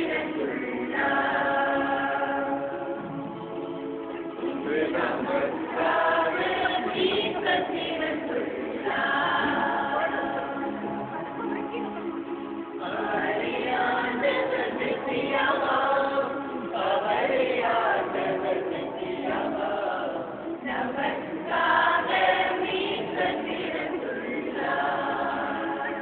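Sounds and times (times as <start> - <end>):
group of people singing: 0.0 - 12.2, 12.8 - 26.0.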